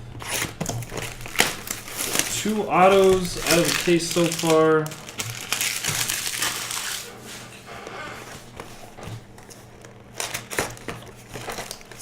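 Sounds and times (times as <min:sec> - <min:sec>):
foil and plastic wrappers crinkling: 0:00.0 - 0:07.6, 0:08.3 - 0:12.0.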